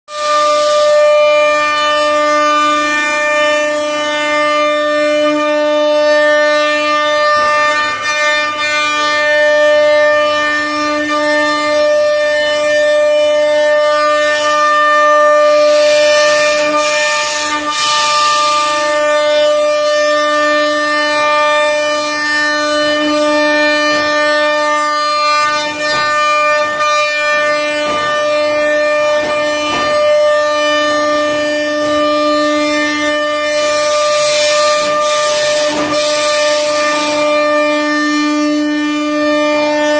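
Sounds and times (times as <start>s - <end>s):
spindle whining at high speed: 0.1s - 39.9s.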